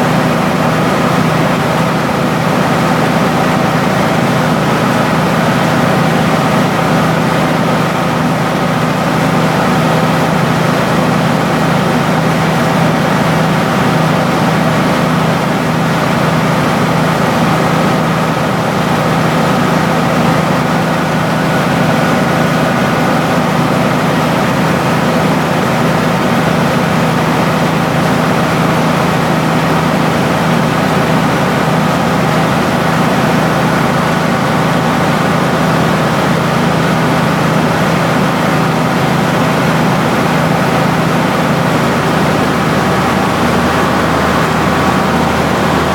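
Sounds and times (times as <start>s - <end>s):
rice milling machine drone: 0.0s - 45.9s.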